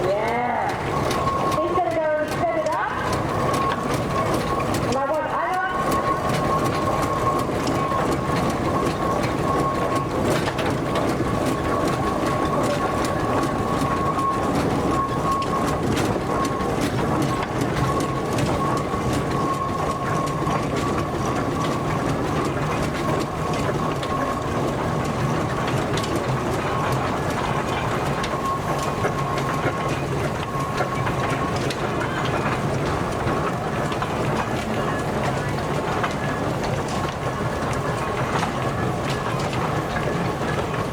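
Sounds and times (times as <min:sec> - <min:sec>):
steam engine clanking gears: 0:00.0 - 0:40.9.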